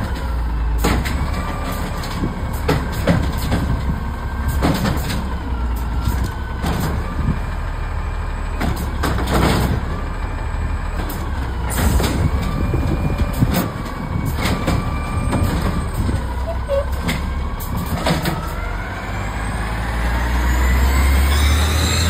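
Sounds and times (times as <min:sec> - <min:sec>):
garbage truck diesel engine: 0:00.0 - 0:22.0.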